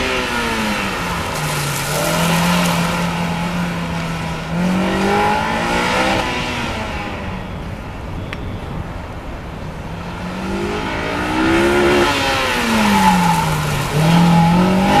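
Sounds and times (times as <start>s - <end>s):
car engine accelerating: 0.0s - 7.2s, 9.9s - 15.0s.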